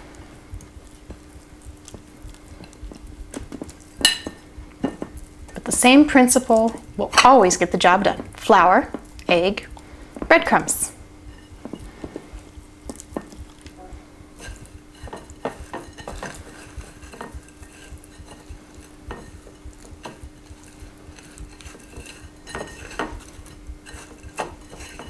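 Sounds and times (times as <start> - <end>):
breadcrumbs rustling: 0.0 - 25.0
faint steady hum: 0.0 - 25.0.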